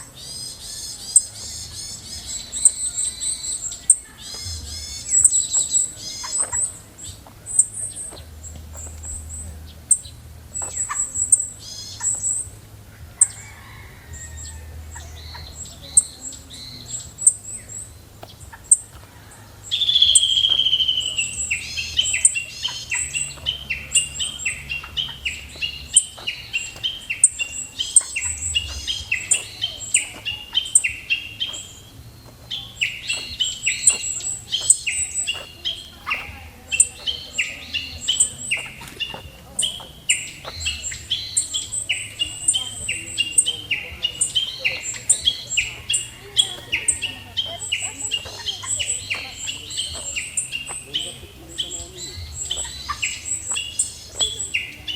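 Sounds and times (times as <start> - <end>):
wild birds singing and chirping: 0.0 - 54.9.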